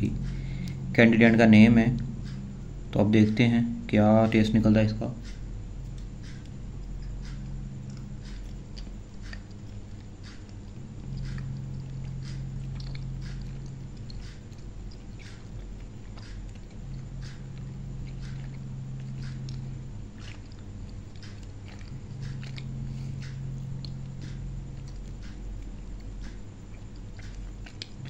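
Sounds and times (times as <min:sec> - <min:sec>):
person chewing gummy candies: 0:05.2 - 0:28.0
wet mouth clicks and smacks: 0:05.2 - 0:28.0.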